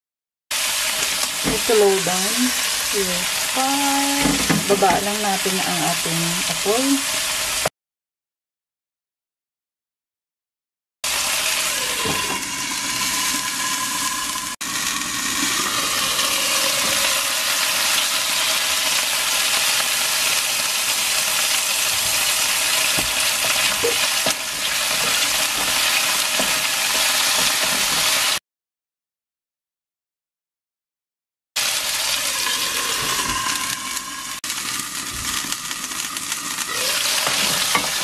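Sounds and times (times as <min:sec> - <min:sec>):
chicken sizzling in oil: 0:00.5 - 0:07.7, 0:11.0 - 0:28.4, 0:31.6 - 0:38.0.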